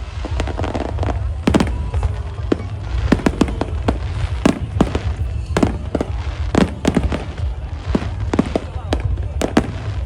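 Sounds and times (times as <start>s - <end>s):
continuous low rumble: 0.0s - 10.0s
fireworks bangs: 0.0s - 10.0s.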